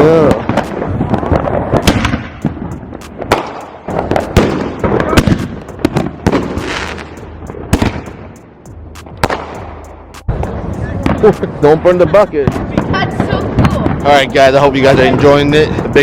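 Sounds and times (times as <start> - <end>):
fireworks bangs and pops: 0.0 - 16.0.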